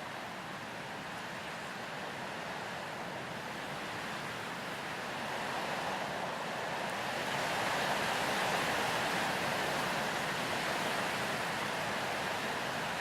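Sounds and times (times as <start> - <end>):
wind through grass and pines: 0.0 - 13.0.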